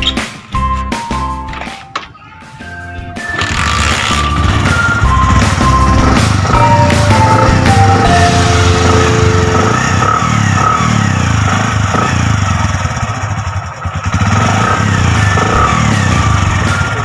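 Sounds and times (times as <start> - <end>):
motorcycle engine running: 3.3 - 17.0.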